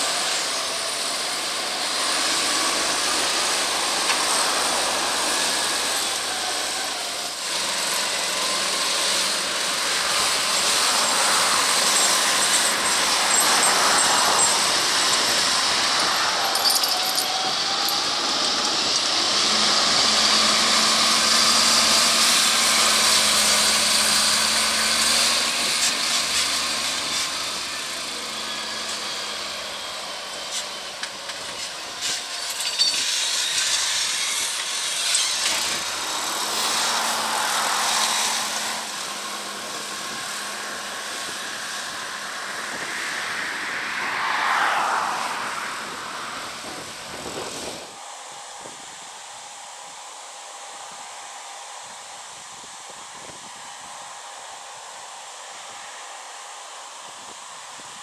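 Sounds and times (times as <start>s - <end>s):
tractor engines under heavy load: 0.0s - 58.0s.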